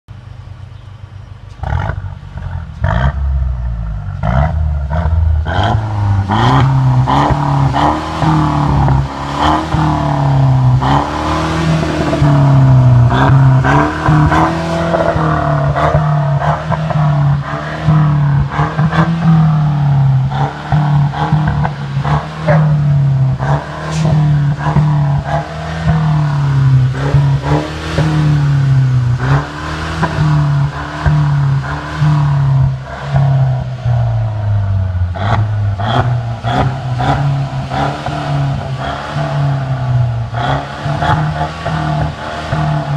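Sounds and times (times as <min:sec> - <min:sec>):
exhaust crackles: 0:00.2 - 0:42.9
car engine revving: 0:01.4 - 0:42.9.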